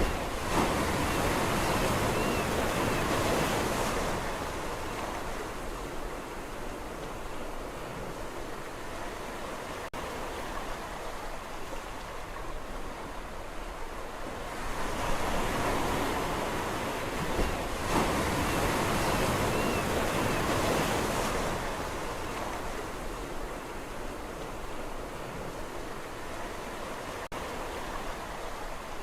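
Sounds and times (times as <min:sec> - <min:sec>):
ocean surf washing onto shore: 0:00.0 - 0:29.0.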